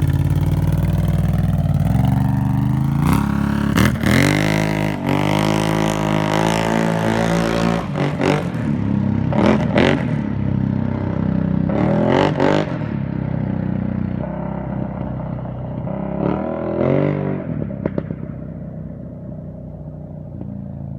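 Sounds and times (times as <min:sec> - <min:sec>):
engine revving: 0:00.0 - 0:13.1, 0:14.2 - 0:18.3.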